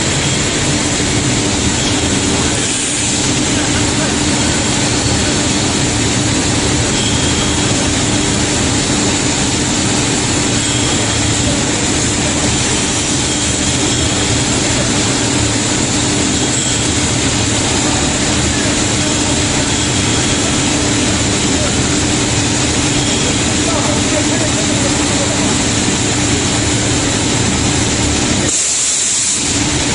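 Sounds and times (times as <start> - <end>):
loud rush of air: 0.0 - 29.9
steady hum: 0.0 - 29.9.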